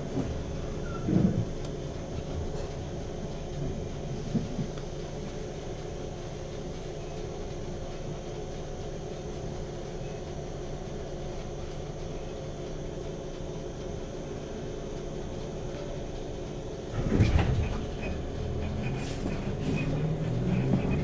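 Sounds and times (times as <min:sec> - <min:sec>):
steady train hum: 0:00.0 - 0:21.0
train wheels rumbling on rails: 0:00.0 - 0:21.0.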